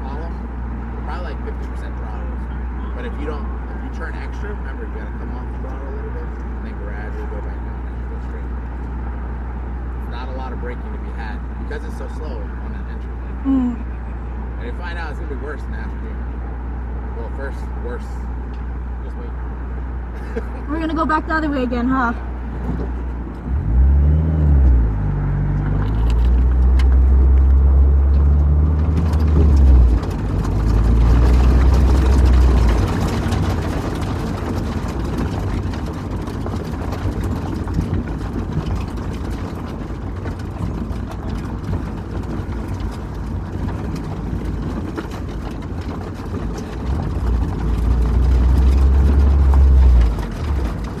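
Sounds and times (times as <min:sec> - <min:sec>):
sports car engine accelerating: 0:00.0 - 0:51.0.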